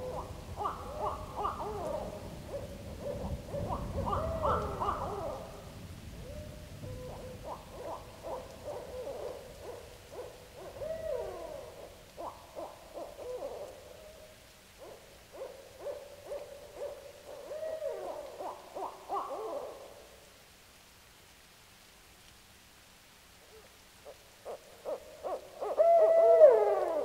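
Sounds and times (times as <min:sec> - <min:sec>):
owls hooting and cackling: 0:00.0 - 0:14.2, 0:14.8 - 0:19.9, 0:23.5 - 0:27.0.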